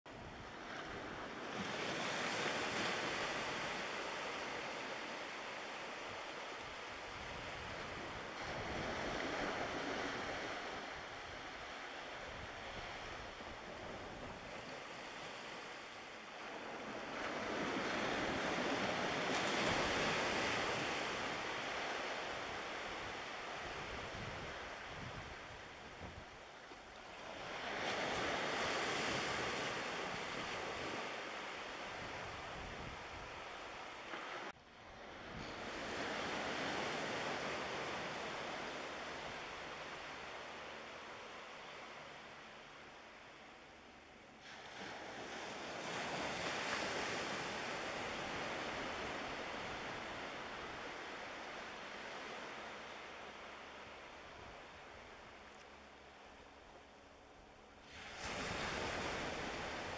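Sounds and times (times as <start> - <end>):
small waves washing onto beach: 0.1 - 59.9.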